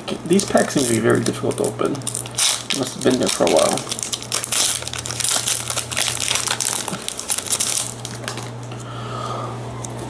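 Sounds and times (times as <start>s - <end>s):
foil wrapper crinkling: 0.3s - 8.7s.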